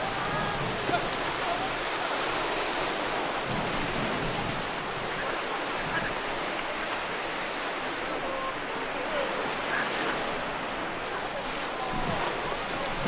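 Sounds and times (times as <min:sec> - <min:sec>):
sea surf washing onto beach: 0:00.0 - 0:13.0.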